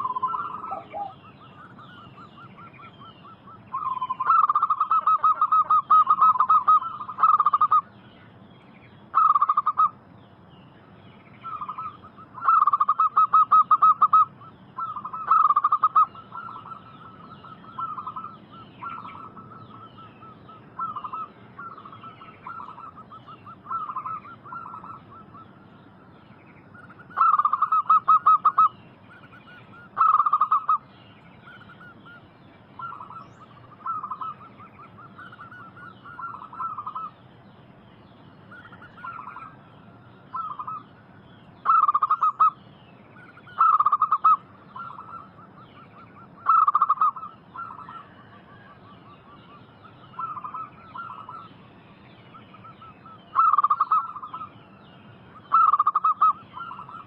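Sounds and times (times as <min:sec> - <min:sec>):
doves cooing: 0:00.0 - 0:08.0, 0:09.1 - 0:10.0, 0:11.4 - 0:37.3, 0:38.4 - 0:51.7, 0:52.3 - 0:57.0
small birds chirping: 0:00.0 - 0:57.0.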